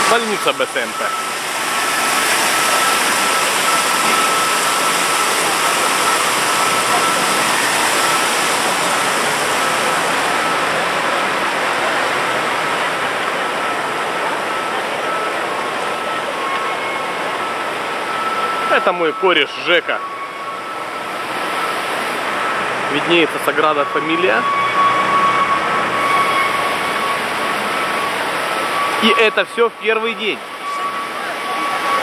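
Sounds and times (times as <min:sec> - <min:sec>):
city traffic: 0:00.0 - 0:32.0
fountain water splashing: 0:00.0 - 0:32.0.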